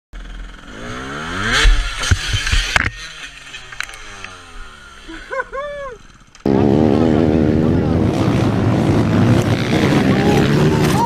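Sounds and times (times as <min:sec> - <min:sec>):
dirt bike engine revving: 0:00.2 - 0:11.0.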